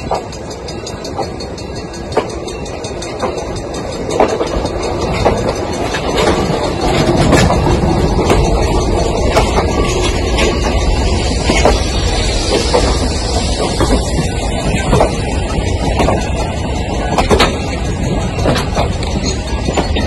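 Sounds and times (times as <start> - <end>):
train cars rumbling past: 0.0 - 20.0
wheels clicking over rail joints: 0.0 - 20.0.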